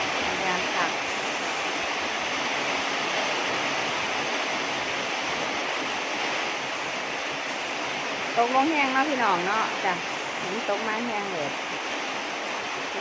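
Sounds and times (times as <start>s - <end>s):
heavy rain pouring: 0.0s - 13.0s
wind: 0.0s - 13.0s.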